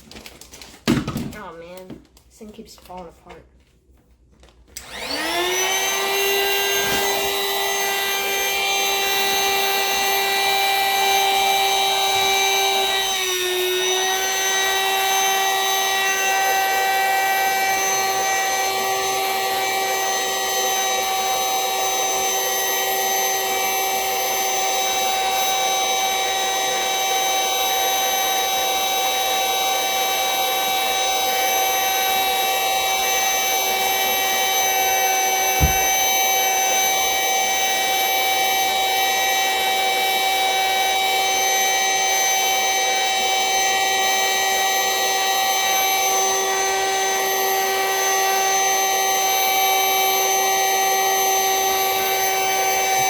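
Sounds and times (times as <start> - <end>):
vacuum cleaner motor running: 4.8 - 53.0.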